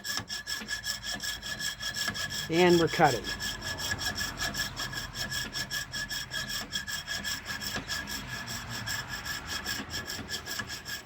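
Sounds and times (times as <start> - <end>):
saw rasping through antler: 0.0 - 11.0.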